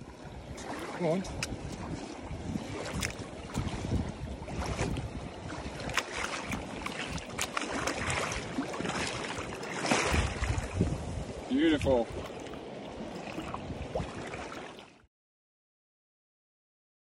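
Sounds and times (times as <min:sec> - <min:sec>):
wind buffeting microphone: 0:00.0 - 0:14.5
shallow water washing at shore: 0:00.0 - 0:15.1.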